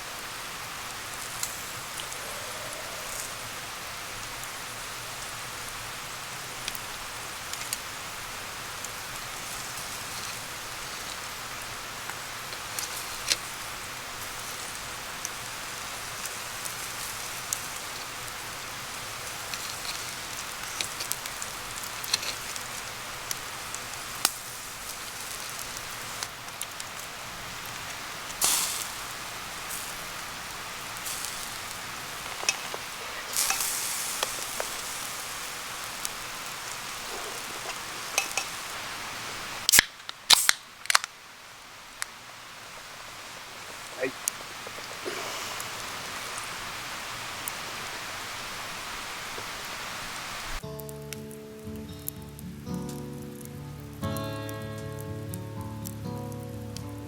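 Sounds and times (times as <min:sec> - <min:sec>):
campfire hissing: 0:00.0 - 0:57.0
fire crackles and pops: 0:00.0 - 0:57.0.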